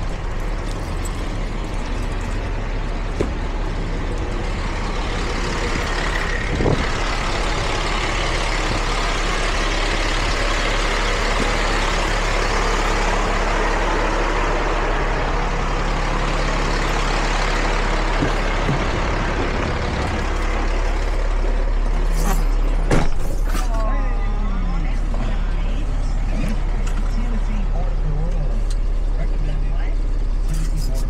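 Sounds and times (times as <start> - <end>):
heavy truck engine running: 0.0 - 31.0.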